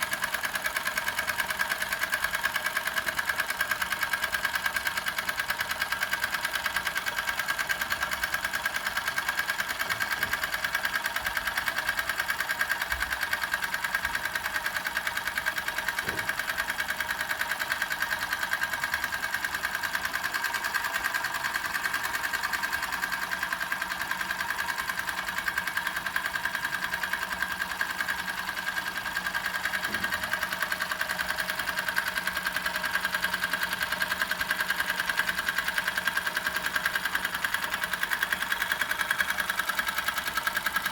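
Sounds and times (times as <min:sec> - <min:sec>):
toy steam engine running: 0:00.0 - 0:40.9.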